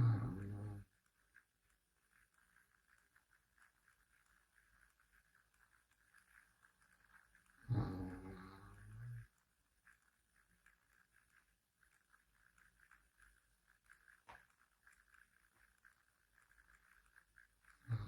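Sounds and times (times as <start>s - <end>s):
soft irregular ticking: 0.0s - 18.0s.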